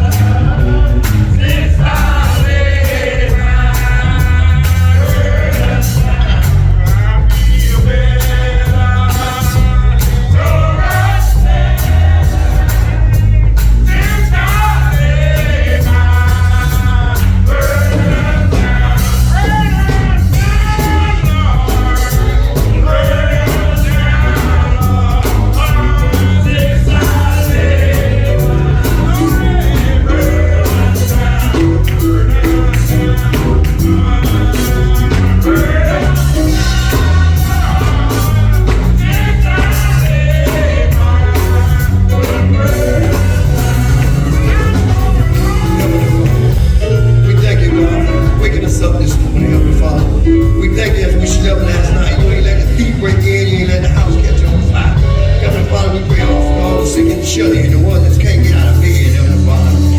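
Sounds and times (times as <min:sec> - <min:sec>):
gospel singing with band: 0:00.0 - 0:59.9.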